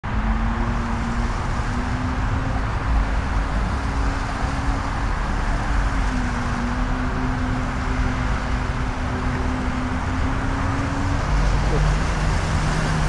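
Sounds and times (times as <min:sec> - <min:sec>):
watercraft engine droning: 0:00.0 - 0:13.0.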